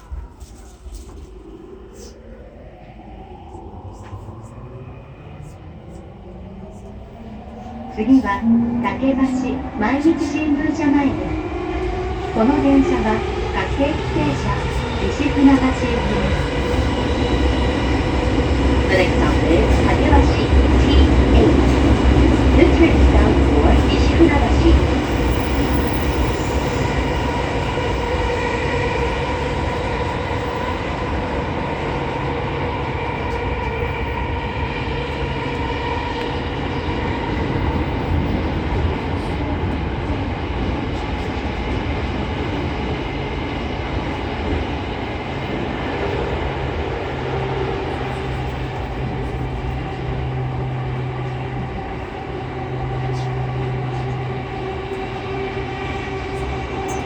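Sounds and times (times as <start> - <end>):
train wheels rumbling on track: 2.5 - 57.0.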